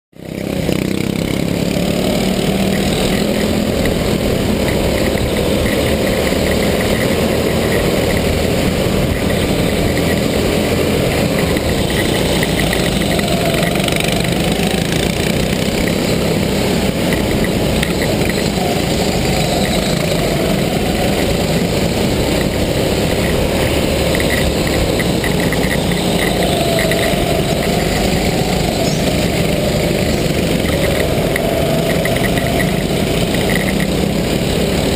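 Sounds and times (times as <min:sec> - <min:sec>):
go-kart motor: 0:00.2 - 0:34.9.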